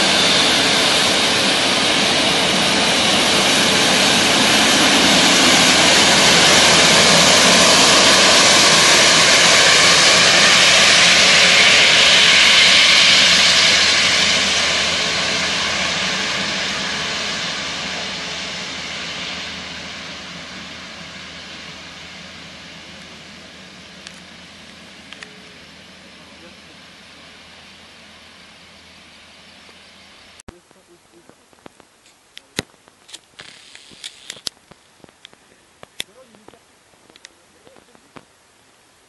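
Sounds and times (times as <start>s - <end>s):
jet engines rushing with whine: 0.0s - 39.0s.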